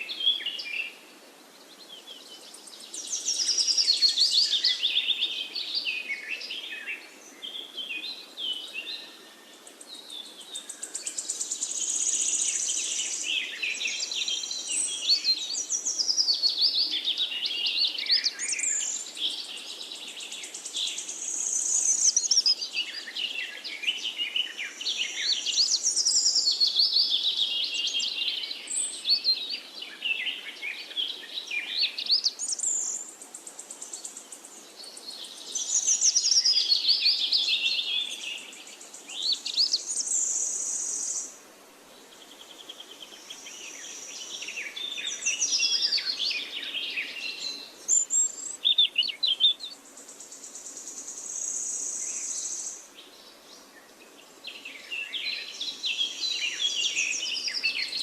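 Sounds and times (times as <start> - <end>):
birds chirping and trilling: 1.6 - 41.4, 42.0 - 58.0.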